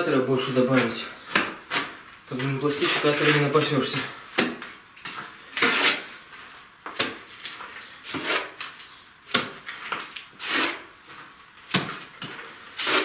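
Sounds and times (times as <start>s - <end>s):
mortar scraping: 0.4s - 13.0s
wet mortar slapping wall: 0.8s - 6.2s, 6.8s - 11.0s, 11.6s - 13.0s.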